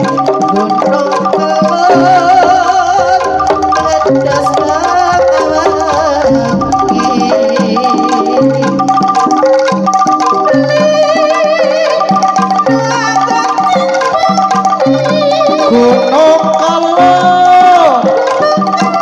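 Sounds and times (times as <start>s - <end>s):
drum strokes: 0.0s - 19.0s
metallophones ringing: 0.0s - 19.0s
wavering melody line: 0.0s - 19.0s.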